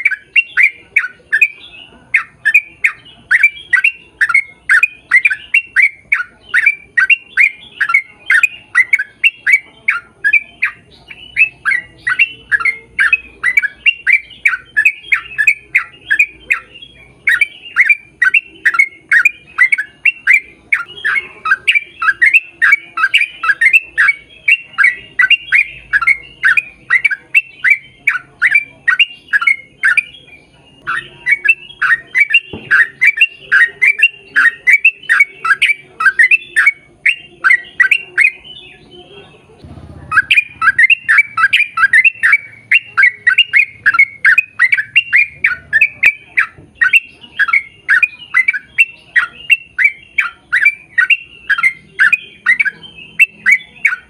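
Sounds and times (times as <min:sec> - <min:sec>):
bird squawking: 0:00.0 - 0:54.0.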